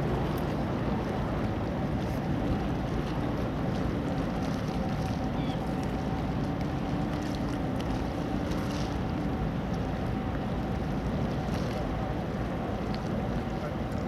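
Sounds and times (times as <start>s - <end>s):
low ship engine drone: 0.0s - 14.0s.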